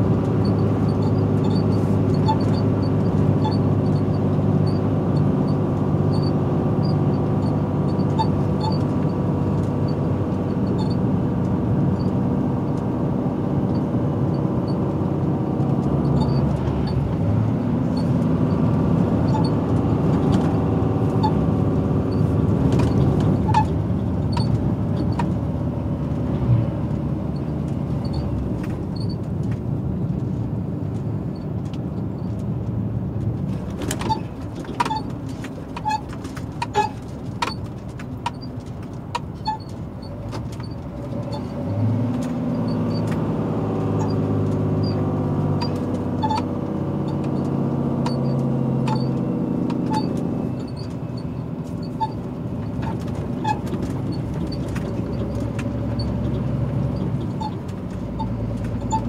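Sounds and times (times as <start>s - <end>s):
truck diesel engine: 0.0s - 59.0s.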